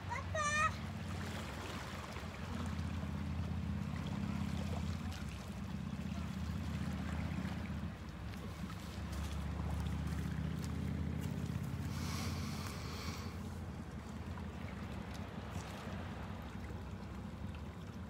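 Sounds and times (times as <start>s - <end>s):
waves lapping on rocks: 0.0s - 18.0s.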